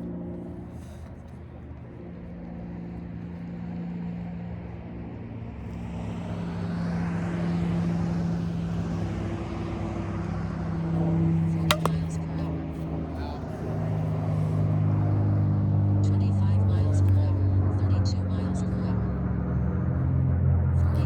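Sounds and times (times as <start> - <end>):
propeller airplane engine droning: 0.0 - 21.0.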